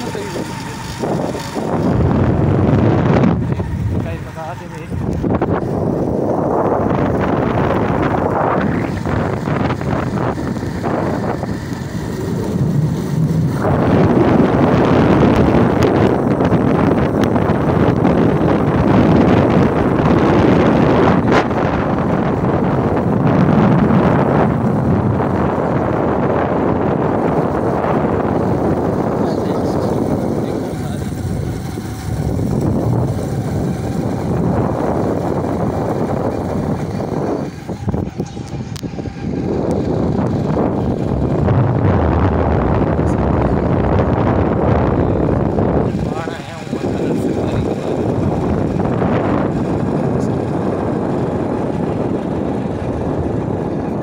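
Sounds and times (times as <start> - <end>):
vehicle running noise: 0.0 - 54.0
wind buffeting microphone: 0.0 - 54.0.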